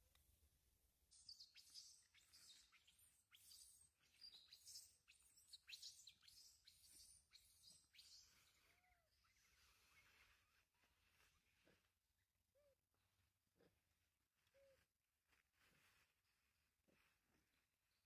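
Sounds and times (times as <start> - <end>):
faint birds chirping: 1.1 - 18.0.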